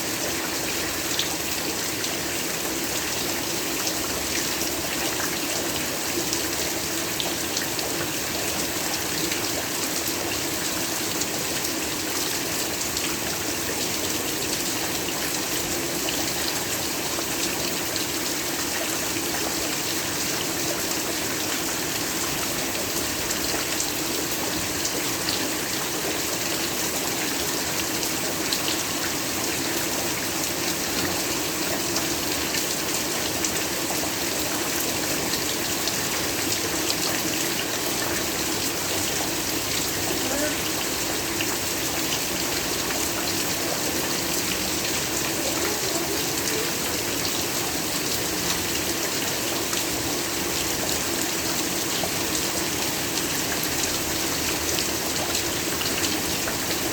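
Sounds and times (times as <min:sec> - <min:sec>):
heavy rain falling: 0:00.1 - 0:56.9.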